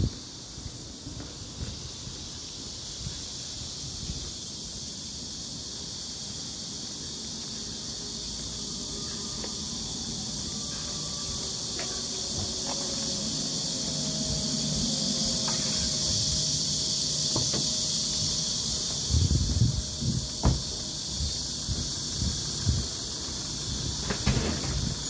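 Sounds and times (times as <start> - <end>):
cicadas chorus: 0.0 - 25.0.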